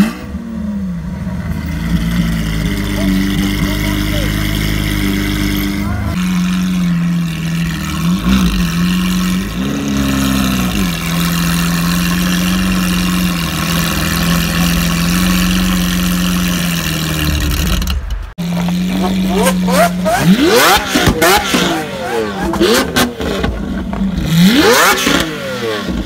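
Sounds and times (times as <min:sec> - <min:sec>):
car engine idling with throttle blips: 0:00.0 - 0:26.0.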